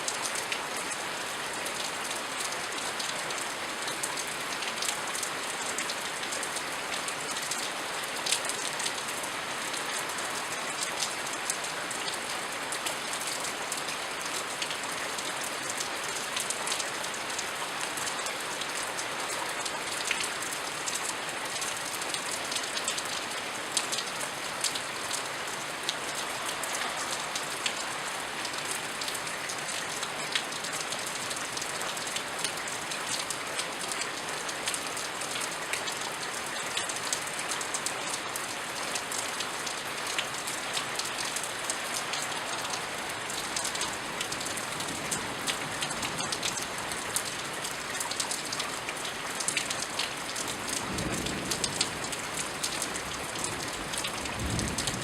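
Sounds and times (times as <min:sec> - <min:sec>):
steady rainfall: 0:00.0 - 0:55.0
raindrops pattering: 0:00.1 - 0:55.0.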